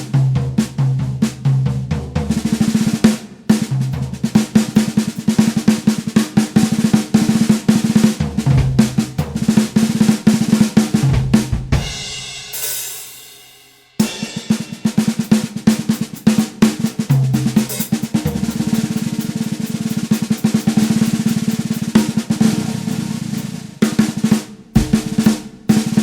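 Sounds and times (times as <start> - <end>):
snare drum roll: 0.0 - 26.0.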